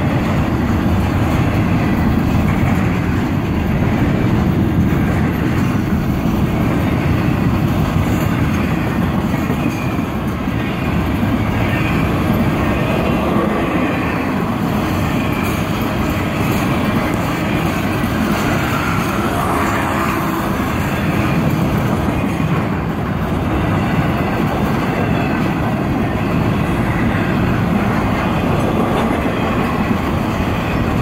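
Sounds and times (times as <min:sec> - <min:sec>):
freight train rolling past: 0:00.0 - 0:31.0
steel wheels rumbling on rails: 0:00.0 - 0:31.0
wheels clickety-clack: 0:00.0 - 0:31.0.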